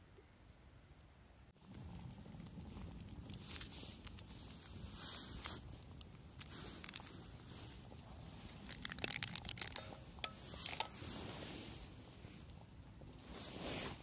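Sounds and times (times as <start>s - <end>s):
crinkling and rustling: 1.6s - 14.0s.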